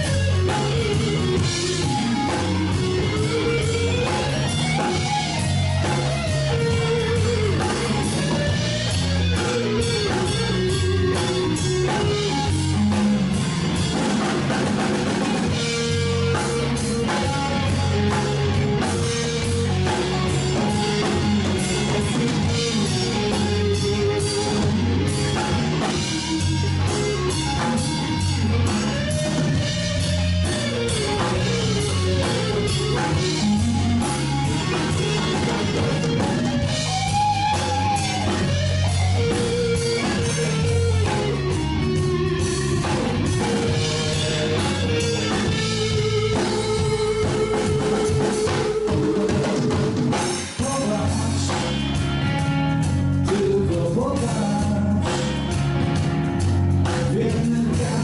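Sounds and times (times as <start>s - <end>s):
bass guitar: 0.0s - 58.0s
drum kit: 0.0s - 58.0s
electric guitar lead lines: 0.0s - 58.0s.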